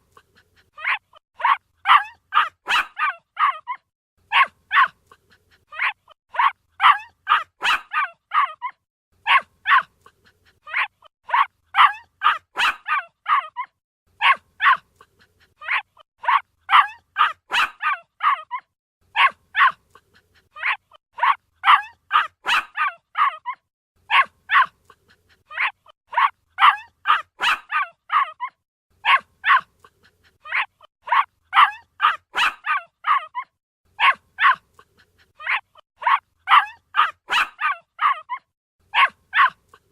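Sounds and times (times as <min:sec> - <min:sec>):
puppy yapping: 0:00.1 - 0:39.8.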